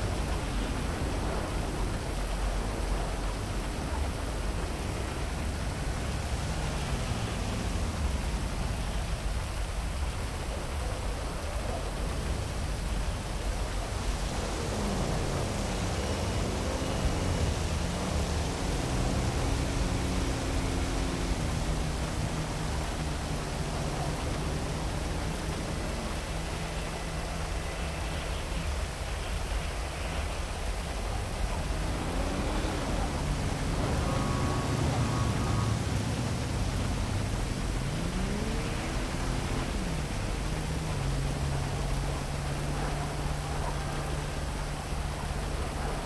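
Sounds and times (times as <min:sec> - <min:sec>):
heavy rain hissing: 0:00.0 - 0:46.0
low city rumble: 0:00.0 - 0:46.0
low vehicle-like tone: 0:00.0 - 0:46.0.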